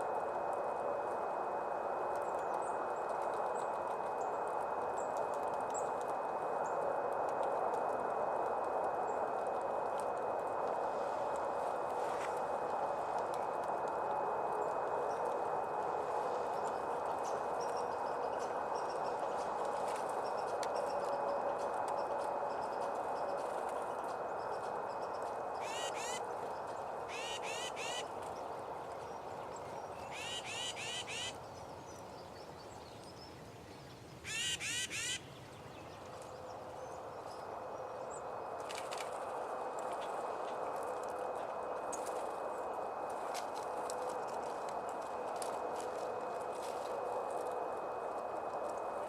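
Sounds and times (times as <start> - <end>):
steady rushing noise: 0.0 - 34.2, 34.8 - 49.0.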